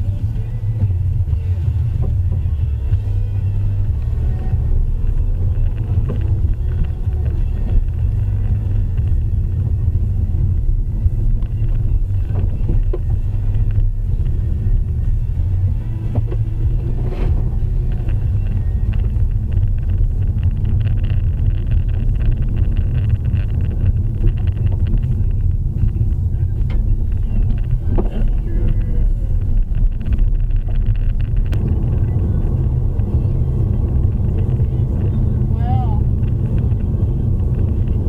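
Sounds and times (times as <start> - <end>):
vehicle driving rumble: 0.0 - 38.0.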